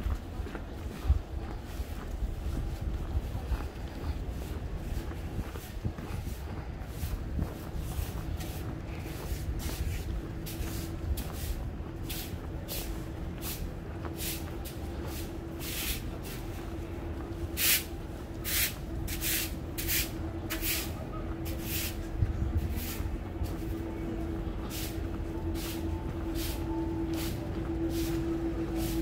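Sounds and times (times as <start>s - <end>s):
low traffic rumble: 0.0s - 29.0s
steady hum: 0.0s - 29.0s.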